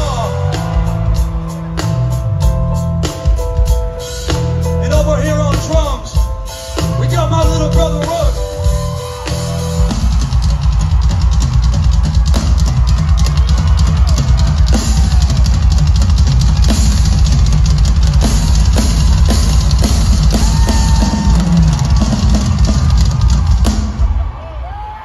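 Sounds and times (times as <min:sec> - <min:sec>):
rock drum kit solo: 0:00.0 - 0:25.0.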